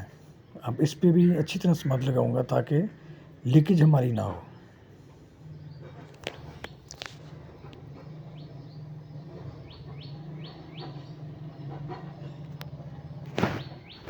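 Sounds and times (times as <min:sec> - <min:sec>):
bird chirping: 0:00.0 - 0:14.0
steady low hum: 0:00.0 - 0:14.0.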